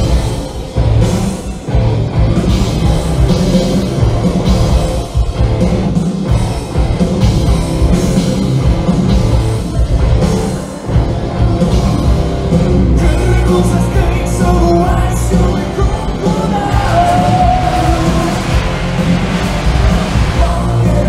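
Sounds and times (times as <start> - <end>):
driving drum kit: 0.0 - 21.0
electric guitars: 0.0 - 21.0.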